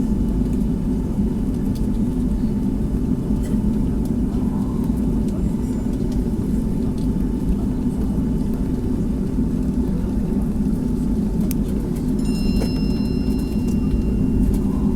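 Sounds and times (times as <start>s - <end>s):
aircraft cabin rumble: 0.1s - 14.9s.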